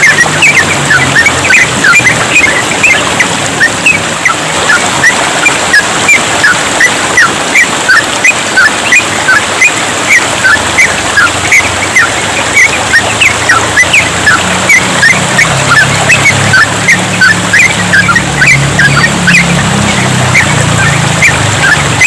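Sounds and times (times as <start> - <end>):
birds singing chirping notes: 0.0 - 22.0
trickling water: 0.0 - 22.0.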